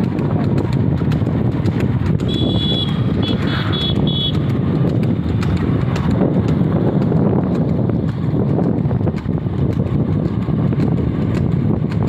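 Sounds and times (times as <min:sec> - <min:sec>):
hooves clicking on asphalt: 0:00.0 - 0:12.0
wind and road rumble: 0:00.0 - 0:12.0.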